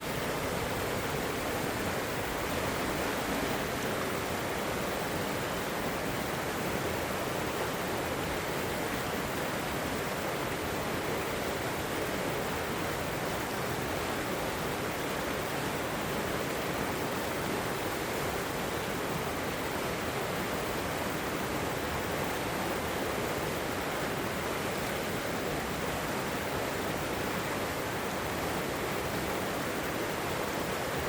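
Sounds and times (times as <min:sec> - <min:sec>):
river water rushing over rocks: 0:00.0 - 0:31.0.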